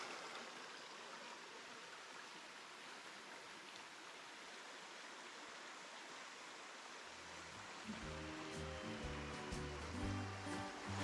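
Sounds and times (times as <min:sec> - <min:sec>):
creek babbling over rocks: 0:00.0 - 0:11.0.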